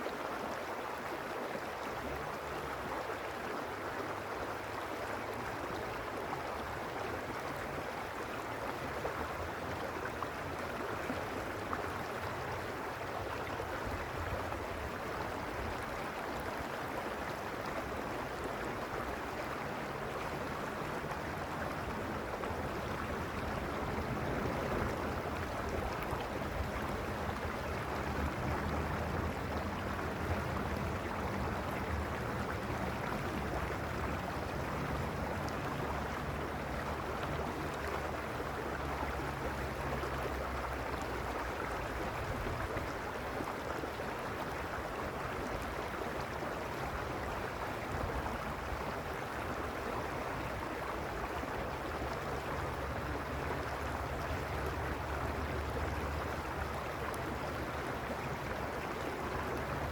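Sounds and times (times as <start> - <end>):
creek rushing over stones: 0.0 - 59.9.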